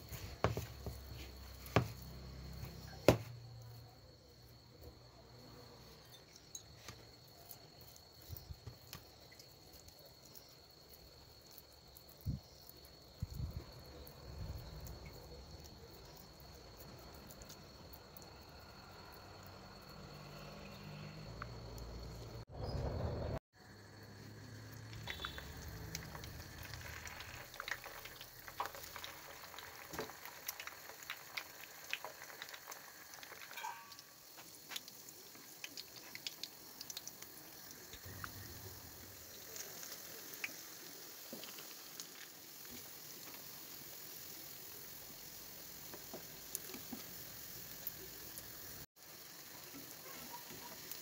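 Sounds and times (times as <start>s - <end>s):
deep-frying sizzle with pops: 0.0s - 22.6s, 23.6s - 51.0s.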